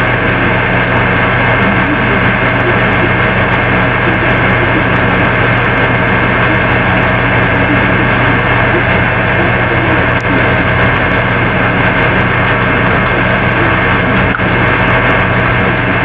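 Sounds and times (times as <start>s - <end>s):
dense droning noise: 0.0s - 16.0s
low hum: 0.0s - 16.0s.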